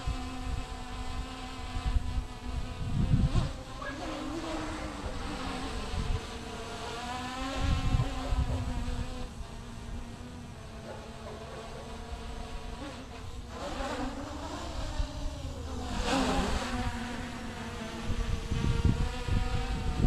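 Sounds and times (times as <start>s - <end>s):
wind rumble on microphone: 0.0s - 10.1s, 12.4s - 20.0s
drone motors buzzing: 0.0s - 20.0s.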